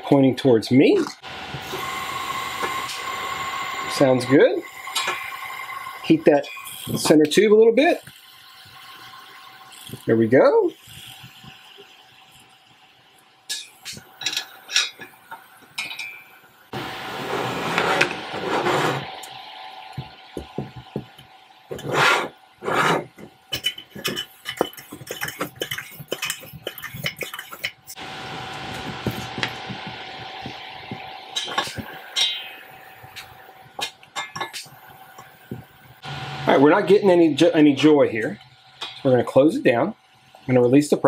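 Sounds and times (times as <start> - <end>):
stove steady hiss: 0.9 - 41.0.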